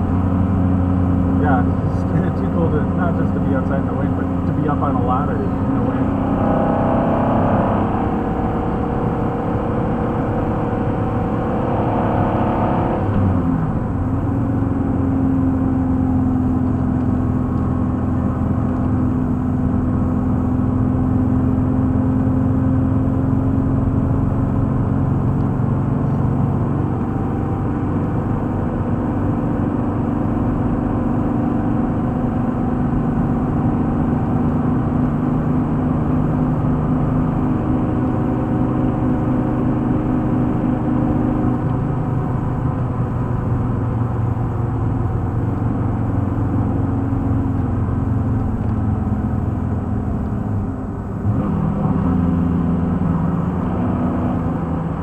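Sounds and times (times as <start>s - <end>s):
car engine droning: 0.0s - 55.0s
road and wind noise: 0.0s - 55.0s.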